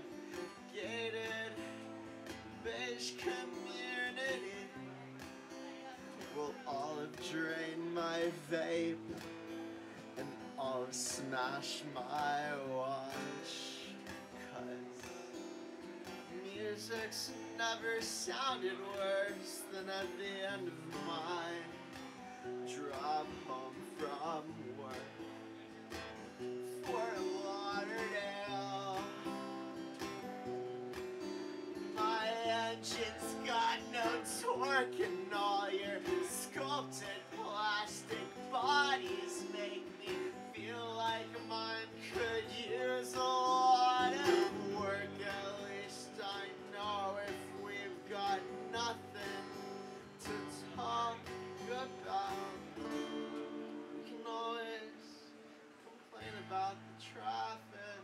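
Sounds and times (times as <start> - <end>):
man singing: 0.0 - 25.4, 26.4 - 30.3, 31.6 - 55.4, 56.0 - 58.0
acoustic guitar strumming: 0.0 - 58.0.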